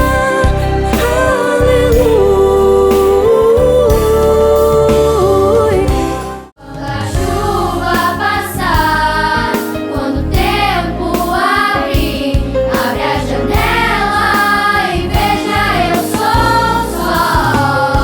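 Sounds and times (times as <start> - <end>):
choir singing: 0.0 - 18.0
instrumental accompaniment: 0.0 - 18.0.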